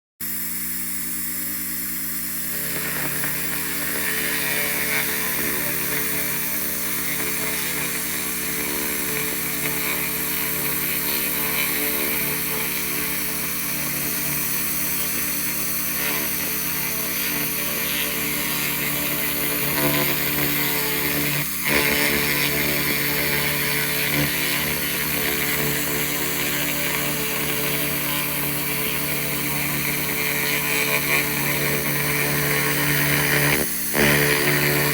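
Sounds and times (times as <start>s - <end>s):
laser machine humming: 0.2s - 34.9s.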